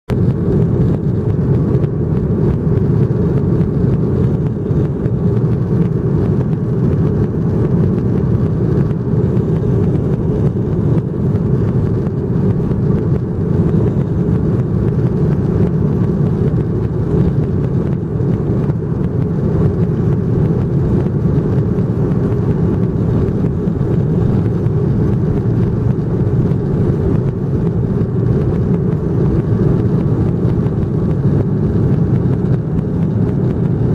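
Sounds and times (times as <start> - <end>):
airplane engines rumbling: 0.1 - 33.9.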